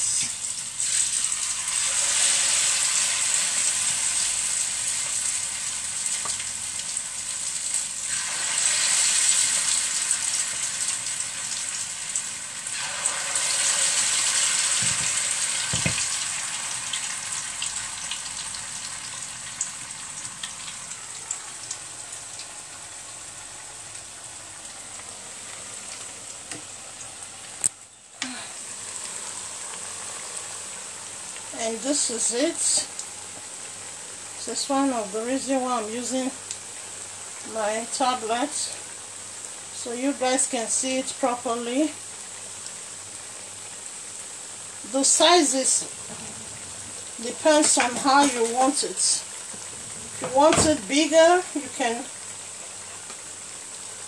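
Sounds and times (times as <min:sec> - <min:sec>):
batter sizzling in hot oil: 0:00.0 - 0:54.0.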